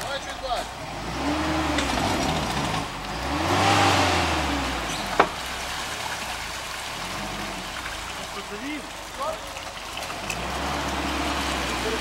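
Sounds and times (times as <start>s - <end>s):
car engine revving: 0.0s - 12.0s
water churning around wheels: 0.0s - 12.0s.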